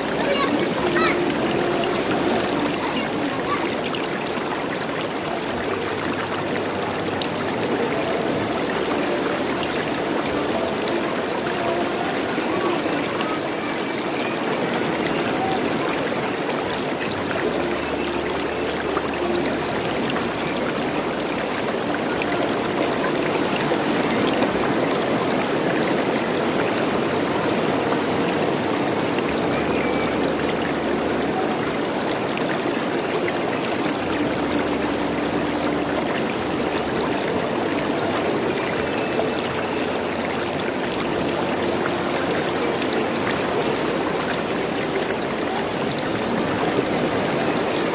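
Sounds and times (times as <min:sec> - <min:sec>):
running water gurgling: 0:00.0 - 0:47.9.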